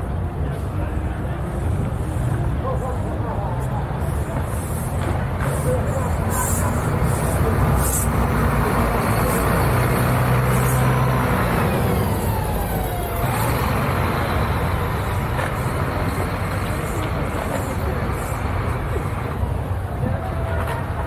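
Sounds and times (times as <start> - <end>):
bus driving past: 0.0 - 21.0.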